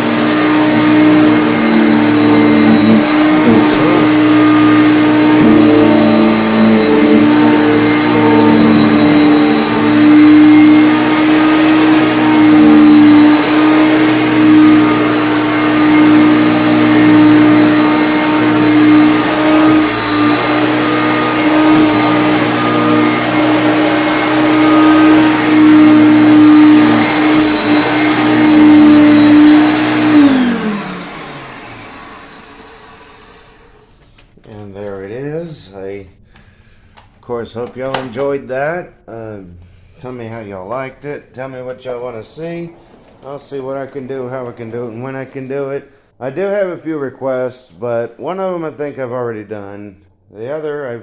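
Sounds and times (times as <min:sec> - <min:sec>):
vacuum cleaner running: 0:00.0 - 0:38.2, 0:39.6 - 0:46.2.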